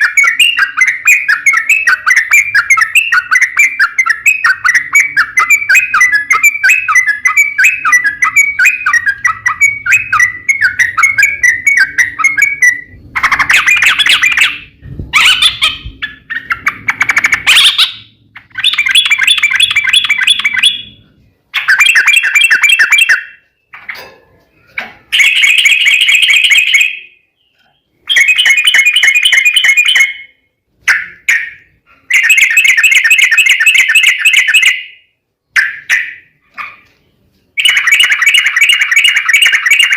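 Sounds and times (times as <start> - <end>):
bird chattering: 0.0 - 34.9, 37.6 - 39.9.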